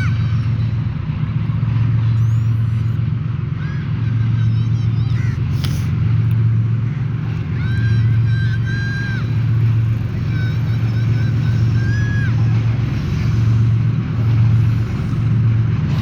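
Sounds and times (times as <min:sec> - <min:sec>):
short high-pitched calls: 0:00.0 - 0:15.4
locomotive engine drone: 0:00.0 - 0:16.0.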